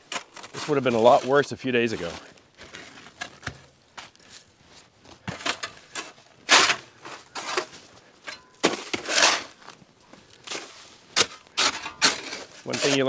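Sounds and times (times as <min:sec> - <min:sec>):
steel scraper crunching snow and ice: 0:00.0 - 0:03.6, 0:05.3 - 0:09.8, 0:10.4 - 0:13.0.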